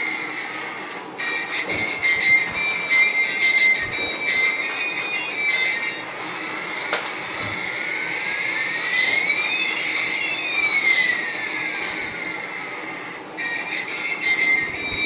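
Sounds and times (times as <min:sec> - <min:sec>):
toy whining electronic tones: 0:00.0 - 0:15.0.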